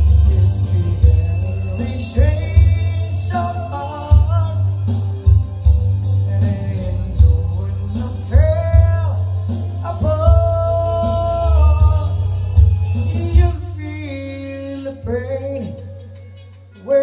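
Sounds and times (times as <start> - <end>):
backing track with heavy bass beat: 0.0 - 17.0
man singing into a microphone: 0.0 - 17.0.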